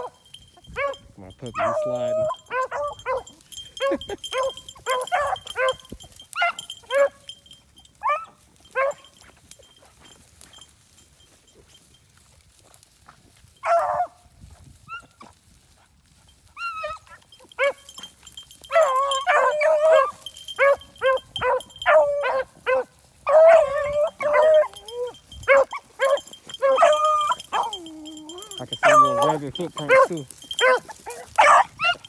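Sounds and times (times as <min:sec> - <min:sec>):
beagles baying: 0:00.0 - 0:10.7, 0:13.6 - 0:14.2, 0:16.5 - 0:32.0.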